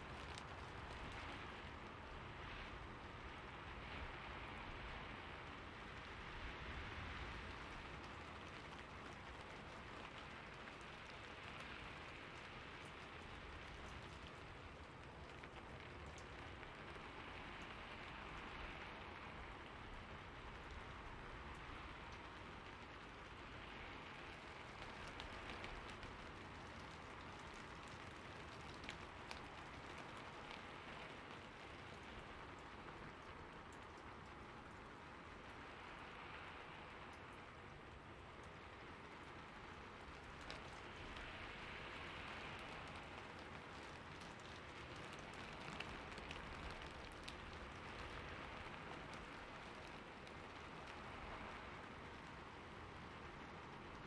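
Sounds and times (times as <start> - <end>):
steady rain pattering: 0.0 - 54.0.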